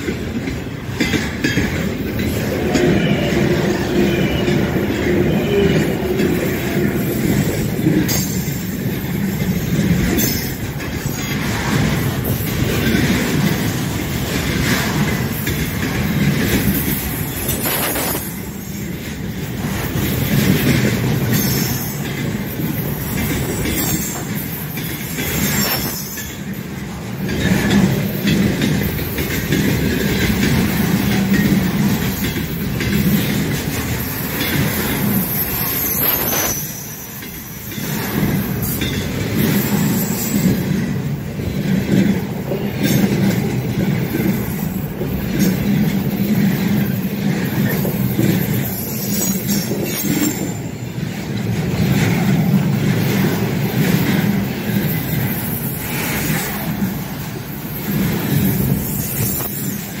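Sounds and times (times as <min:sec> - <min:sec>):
freight train wagons rumbling: 0:00.0 - 1:00.0
train wheels clattering on rails: 0:00.0 - 1:00.0.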